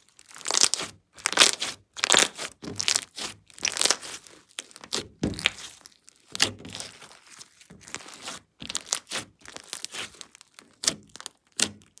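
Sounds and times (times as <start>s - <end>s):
slime crackling and tearing: 0.0s - 12.0s.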